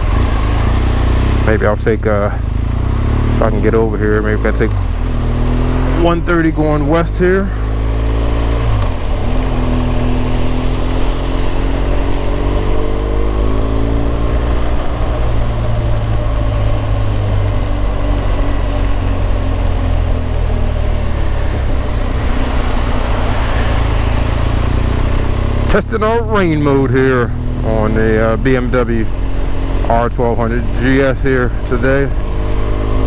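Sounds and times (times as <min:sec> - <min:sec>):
motorcycle engine running: 0:00.0 - 0:33.0
wind and road noise: 0:00.0 - 0:33.0.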